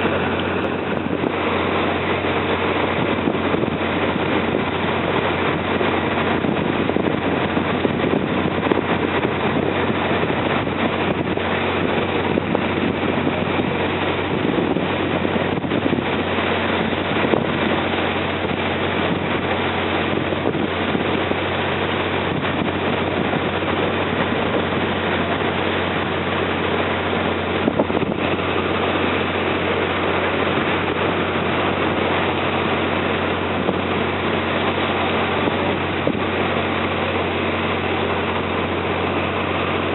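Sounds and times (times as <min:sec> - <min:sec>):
boat engine low drone: 0:00.0 - 0:39.9
water rushing: 0:00.0 - 0:39.9.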